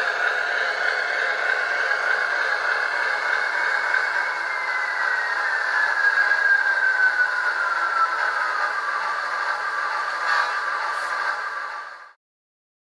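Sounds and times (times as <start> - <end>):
whine falling in pitch: 0.0 - 10.8
diesel locomotive sounds from small speaker: 0.0 - 12.2.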